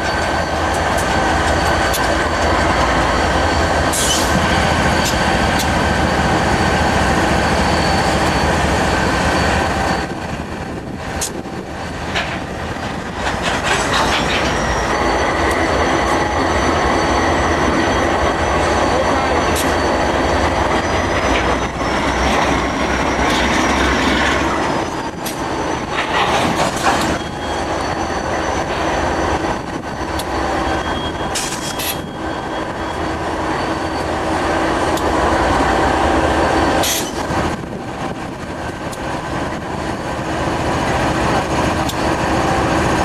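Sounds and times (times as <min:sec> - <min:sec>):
wheel squeal: 0:00.0 - 0:37.5
train wheels rumbling on rails: 0:00.0 - 0:43.0.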